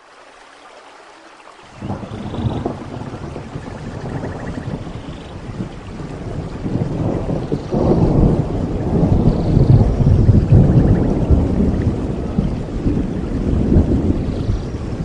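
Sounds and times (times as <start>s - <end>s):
steady rain: 0.0s - 15.0s
thunder rumbling: 1.8s - 15.0s.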